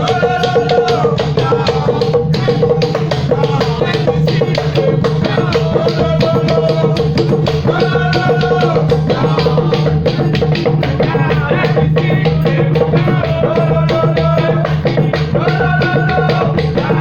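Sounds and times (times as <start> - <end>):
dance music with drum beat: 0.0 - 17.0.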